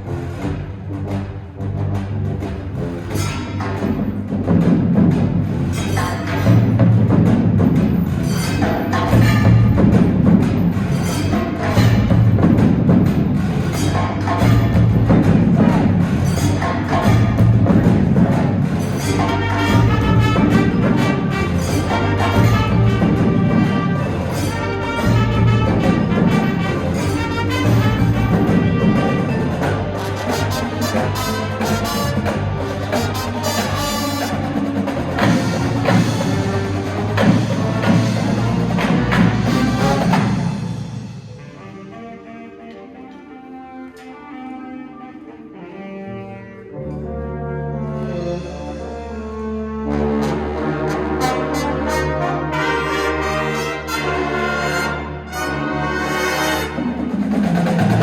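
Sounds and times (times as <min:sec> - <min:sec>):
marching band playing: 0:00.0 - 0:58.0.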